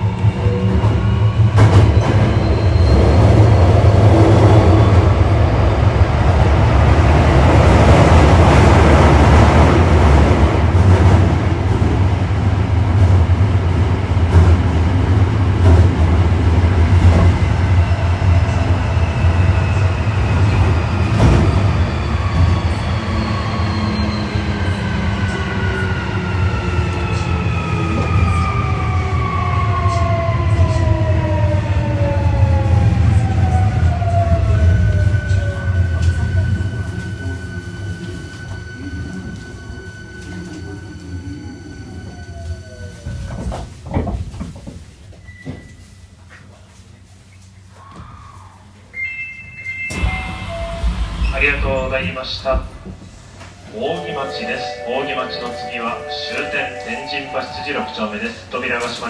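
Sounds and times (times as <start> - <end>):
subway wheel and motor rumble: 0.0 - 59.0.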